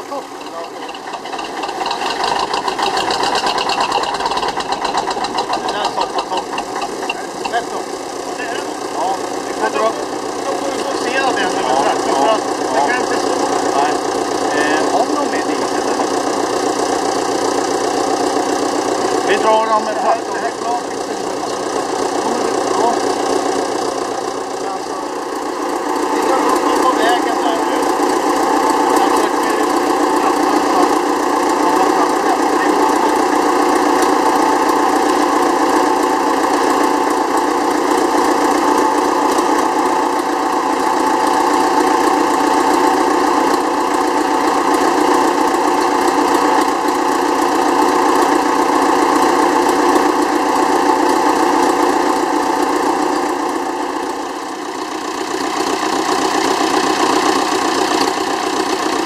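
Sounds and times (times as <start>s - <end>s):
tractor engine idling: 0.0s - 59.0s.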